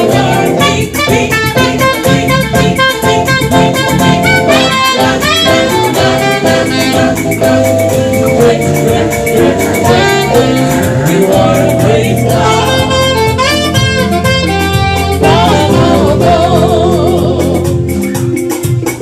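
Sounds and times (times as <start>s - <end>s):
bass line: 0.0s - 19.0s
drums: 0.0s - 19.0s
saxophone melody: 0.0s - 19.0s.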